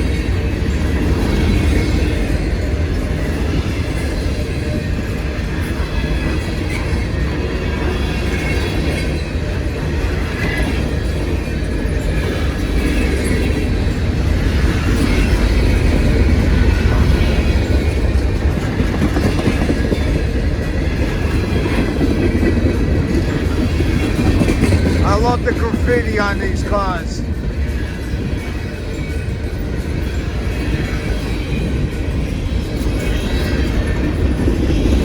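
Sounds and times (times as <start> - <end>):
freight train cars rolling on rails: 0.0 - 35.0.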